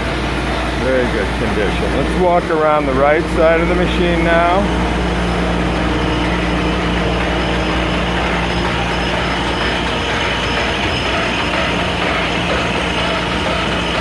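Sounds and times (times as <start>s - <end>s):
gear grinder machine humming: 0.0s - 14.0s.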